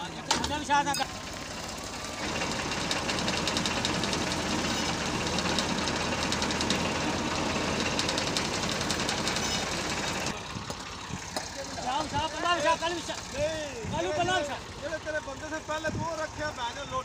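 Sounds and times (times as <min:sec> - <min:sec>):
tractor diesel engine clattering: 0:00.0 - 0:17.0.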